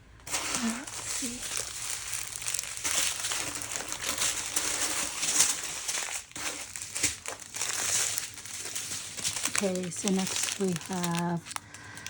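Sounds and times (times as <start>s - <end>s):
plastic bags crinkling: 0.2s - 12.0s.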